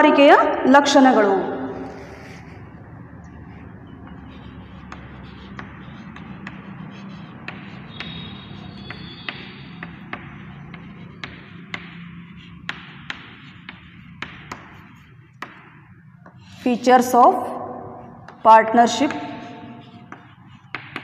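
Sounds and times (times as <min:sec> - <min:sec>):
steady low hum: 0:00.0 - 0:21.0
chalk tapping on blackboard: 0:01.8 - 0:17.2, 0:18.0 - 0:21.0.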